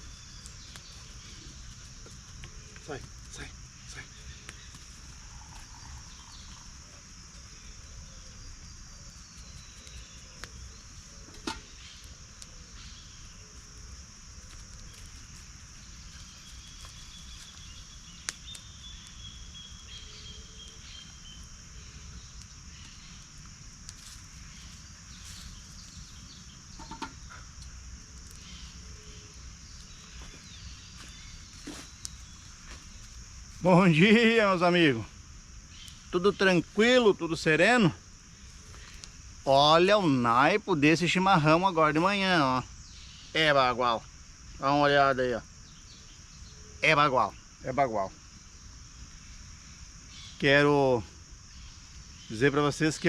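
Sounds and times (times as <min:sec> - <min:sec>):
crickets shrilling: 0:00.0 - 0:53.0.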